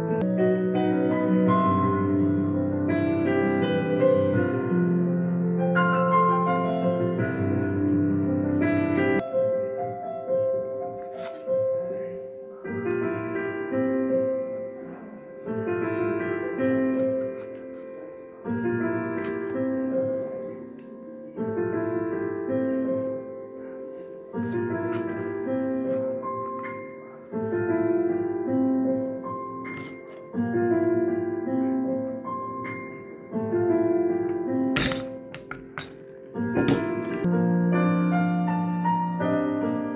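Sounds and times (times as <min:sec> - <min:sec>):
gentle piano music: 0:00.0 - 0:39.9.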